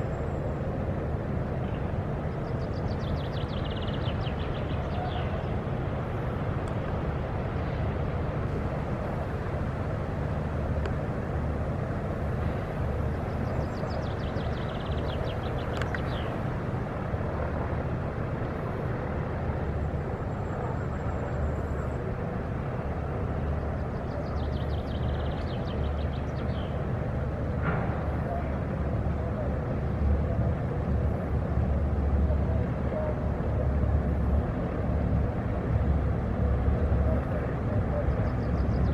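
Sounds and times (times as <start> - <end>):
low fluttering rumble: 0.0 - 38.9.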